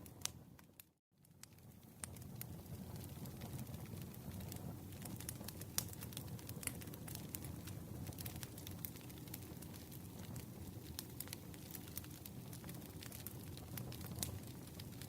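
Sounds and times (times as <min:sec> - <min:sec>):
campfire crackling and popping: 0:00.0 - 0:15.0
low rumble of burning: 0:00.0 - 0:15.0.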